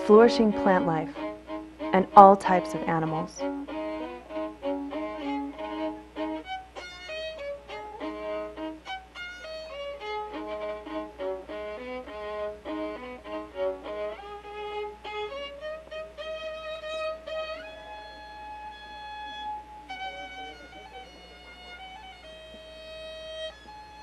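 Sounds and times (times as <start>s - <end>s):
violin playing quick melody: 0.0s - 24.0s.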